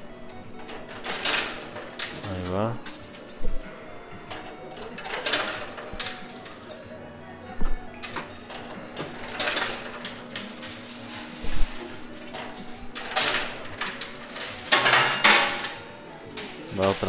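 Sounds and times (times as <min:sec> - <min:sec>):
coins clinking in arcade machine: 0:00.0 - 0:17.0.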